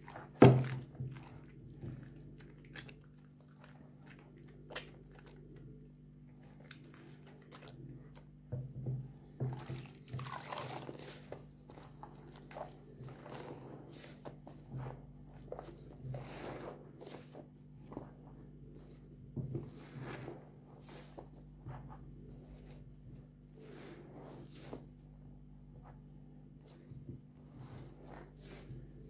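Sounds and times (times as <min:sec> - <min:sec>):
hands lathering soap in water: 0:00.0 - 0:08.8, 0:09.4 - 0:23.0, 0:25.8 - 0:29.0.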